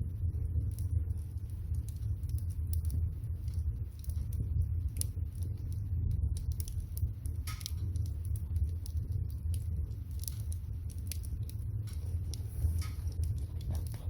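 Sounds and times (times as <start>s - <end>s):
pot of water boiling: 0.0s - 14.0s
wood fire crackling: 0.0s - 14.0s.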